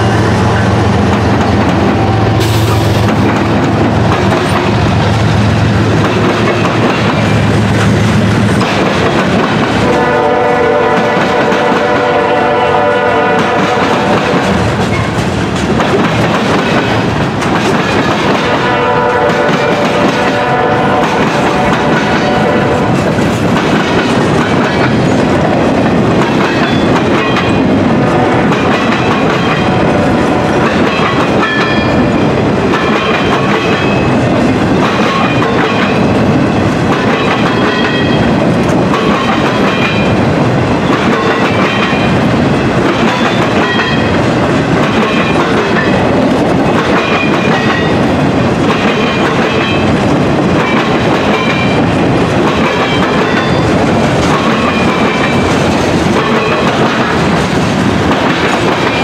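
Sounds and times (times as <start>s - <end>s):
train wheels rumbling on rails: 0.0s - 59.0s
clickety-clack over rail joints: 0.6s - 59.0s.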